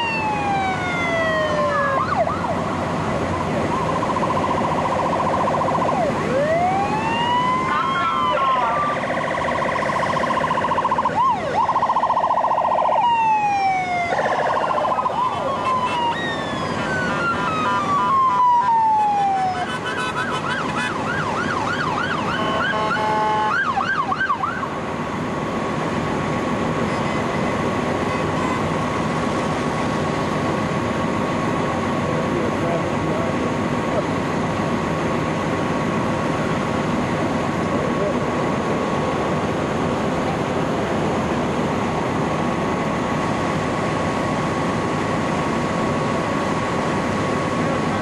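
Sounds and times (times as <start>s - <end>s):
emergency vehicle sirens: 0.0s - 48.0s
vehicle noise: 0.0s - 48.0s.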